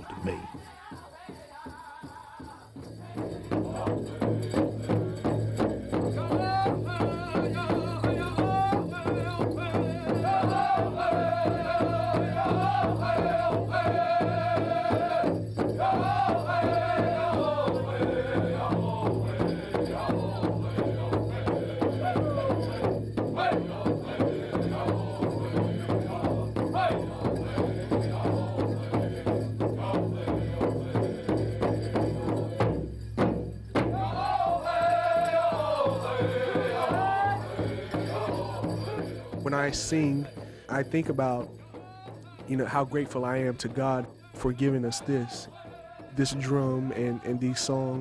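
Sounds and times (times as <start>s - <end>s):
people singing: 0.0s - 48.0s
steady drumbeat: 0.0s - 48.0s.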